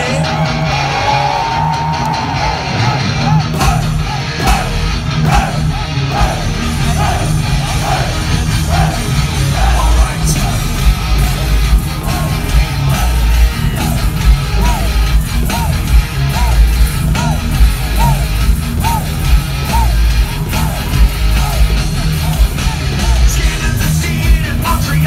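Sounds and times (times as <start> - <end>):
distorted electric guitar riff: 0.0 - 25.0
drums and bass: 0.0 - 25.0
fans yelling: 0.0 - 25.0.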